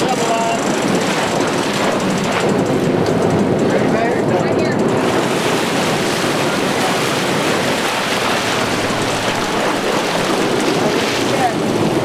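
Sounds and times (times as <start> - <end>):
water splashing along boat hull: 0.0 - 12.0
wind buffeting microphone: 0.0 - 12.0.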